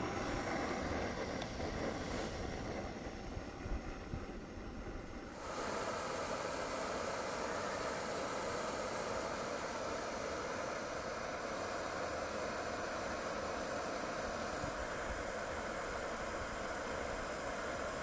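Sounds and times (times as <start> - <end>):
gas stove burner rushing: 0.0 - 18.0.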